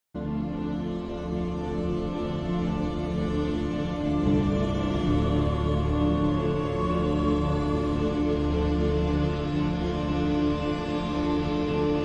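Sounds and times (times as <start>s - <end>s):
new-age held chord music: 0.2s - 12.0s.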